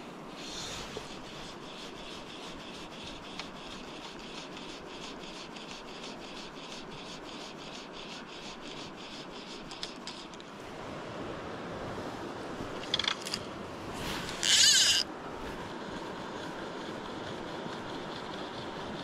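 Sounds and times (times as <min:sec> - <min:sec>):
river water running: 0:00.0 - 0:19.0.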